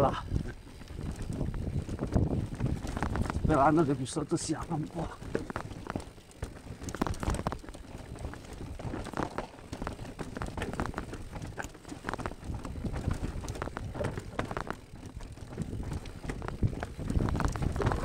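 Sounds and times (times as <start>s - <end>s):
bike rattling: 0.0s - 18.0s.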